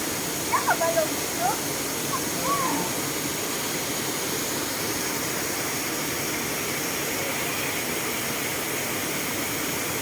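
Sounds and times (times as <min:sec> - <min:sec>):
rain: 0:00.0 - 0:10.0
waterfall rushing: 0:00.0 - 0:10.0.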